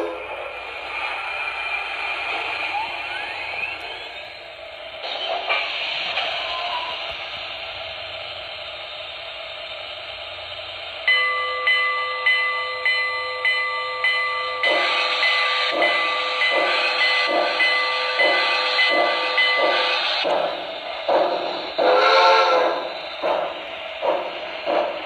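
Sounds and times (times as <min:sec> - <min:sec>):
steam hiss: 0:00.0 - 0:11.0, 0:14.7 - 0:25.0
steam exhaust chuffs: 0:00.0 - 0:11.3, 0:14.5 - 0:25.0.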